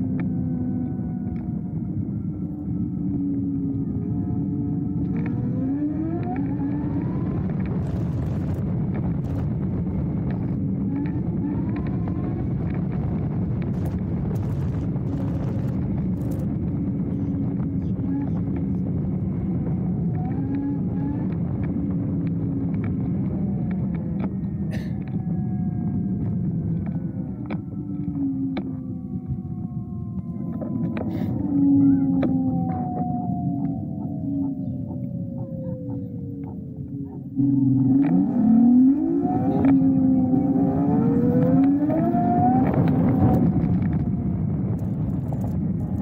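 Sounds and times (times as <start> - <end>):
electric motor whine: 0.0 - 46.0
wind and tyres rumbling: 0.0 - 46.0.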